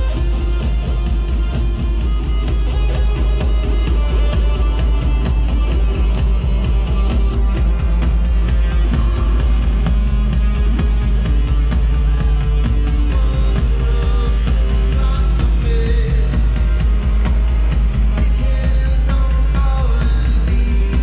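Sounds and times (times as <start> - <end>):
drum beat: 0.0 - 21.0
live rock band: 0.0 - 21.0.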